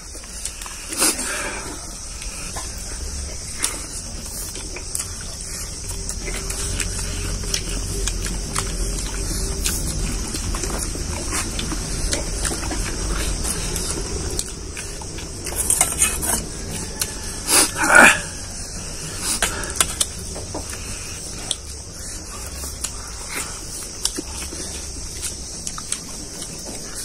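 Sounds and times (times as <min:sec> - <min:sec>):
chewing and mouth clicks: 0:00.0 - 0:27.0
steady high hiss: 0:00.0 - 0:27.0.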